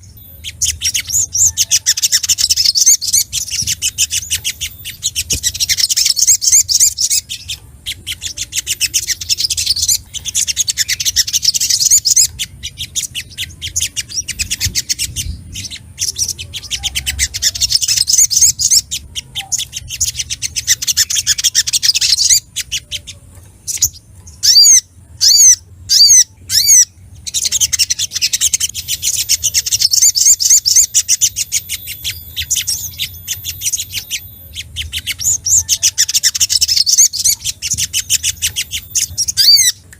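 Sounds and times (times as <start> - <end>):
bird chattering: 0.0 - 39.9
loud downslurred bird chirps: 0.0 - 39.9.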